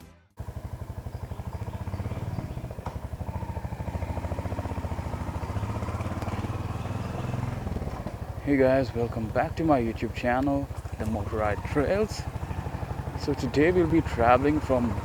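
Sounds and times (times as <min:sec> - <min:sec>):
motorcycle engine idling: 0:00.4 - 0:15.0.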